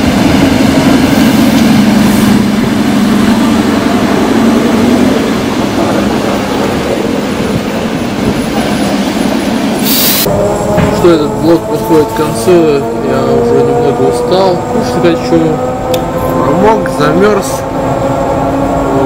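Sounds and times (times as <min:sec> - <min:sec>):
electric train rolling past: 0:00.0 - 0:19.0.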